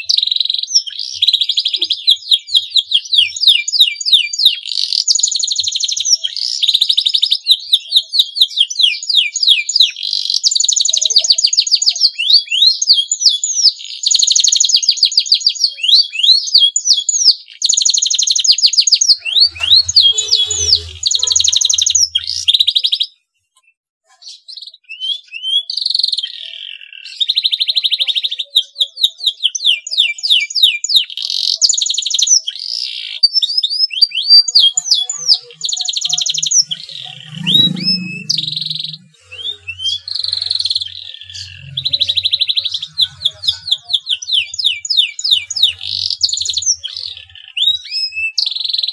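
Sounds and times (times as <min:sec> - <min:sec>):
canary singing trills and chirps: 0:00.0 - 0:48.9.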